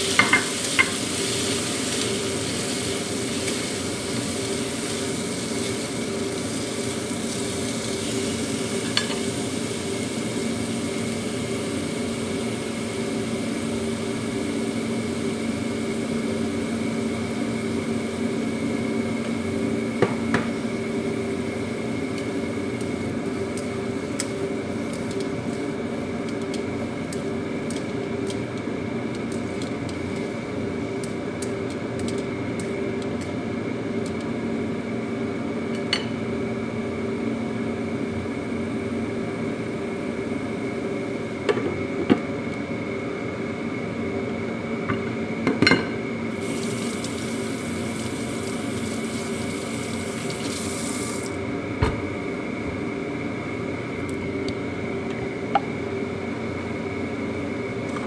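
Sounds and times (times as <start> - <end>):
appliance hum: 0.0 - 58.0.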